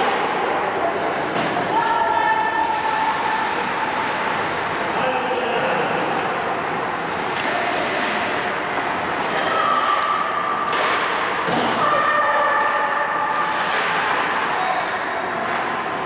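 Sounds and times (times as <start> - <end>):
ice rink noise: 0.0 - 16.0.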